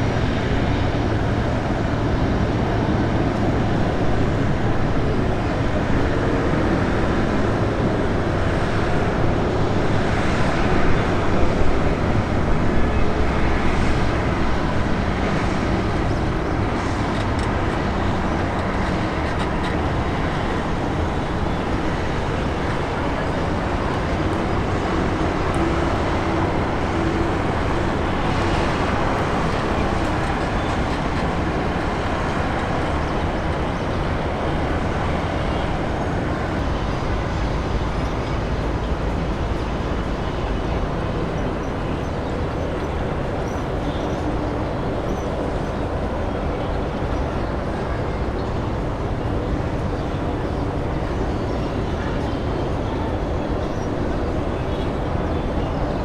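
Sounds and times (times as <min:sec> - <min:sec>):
jet airliner landing roar: 0:00.0 - 0:56.0.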